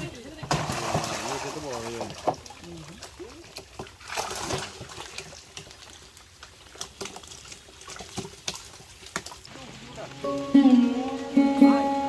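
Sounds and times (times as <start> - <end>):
water dripping: 0.0 - 12.0
water splashing: 0.0 - 12.0.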